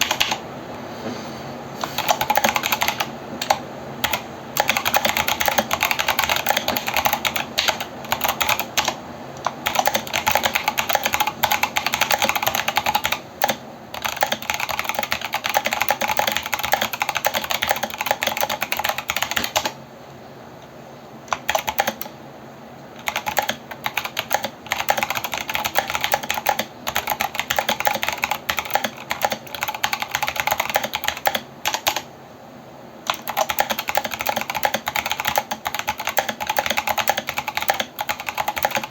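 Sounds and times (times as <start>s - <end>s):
typing on mechanical keyboard: 0.0s - 0.4s, 1.9s - 19.8s, 21.3s - 22.1s, 23.0s - 32.1s, 33.1s - 38.9s.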